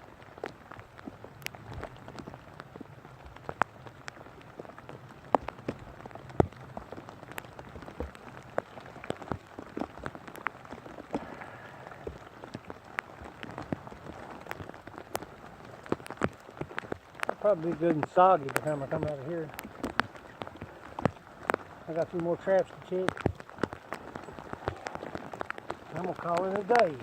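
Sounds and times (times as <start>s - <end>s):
rain falling: 0.0s - 27.0s
raindrops ticking close by: 0.0s - 27.0s.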